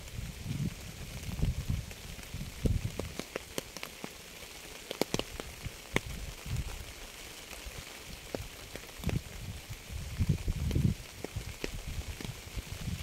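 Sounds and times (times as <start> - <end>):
rain hissing: 0.0 - 13.0
raindrops tapping a surface: 0.0 - 13.0.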